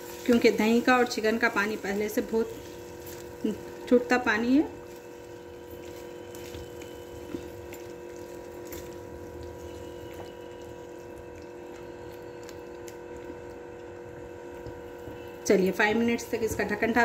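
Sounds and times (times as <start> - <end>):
curry bubbling in a pan: 0.0 - 15.5
steady tonal hum: 0.0 - 17.0.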